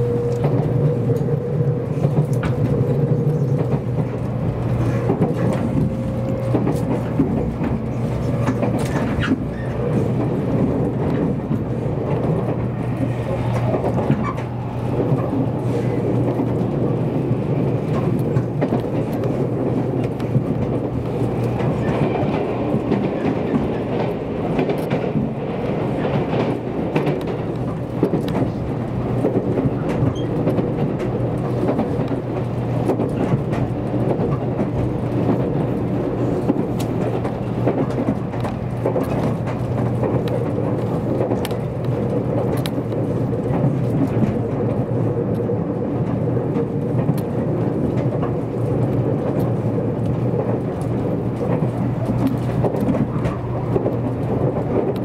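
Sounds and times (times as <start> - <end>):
train cabin rumble: 0.0 - 55.0.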